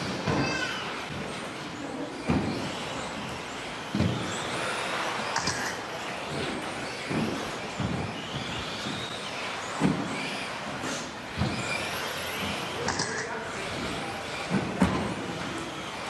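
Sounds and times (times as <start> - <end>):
rc car motors and tyres hissing: 0.0 - 14.8, 15.4 - 16.0.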